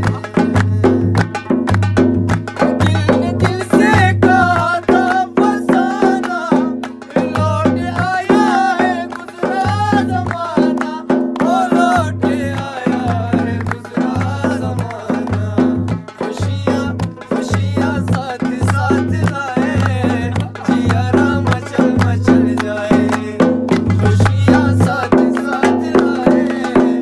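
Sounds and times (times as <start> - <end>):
person singing: 0.0 - 1.2, 2.7 - 27.0
percussion beat: 0.0 - 27.0.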